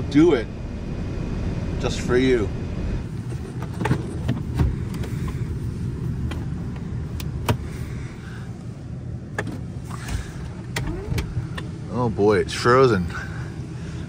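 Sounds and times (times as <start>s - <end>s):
van engine rumbling: 0.0s - 14.0s.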